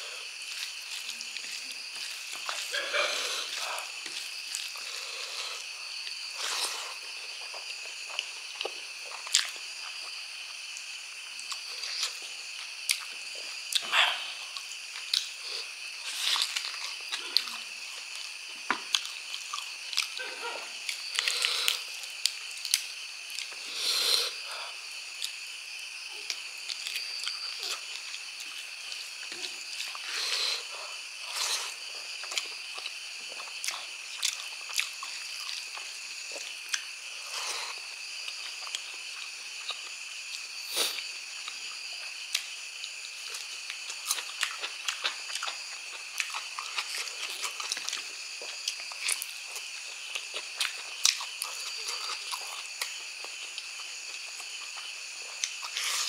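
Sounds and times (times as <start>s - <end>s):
crunching while eating: 0.0s - 56.0s
biting and wet chewing: 0.3s - 23.6s, 26.2s - 56.0s.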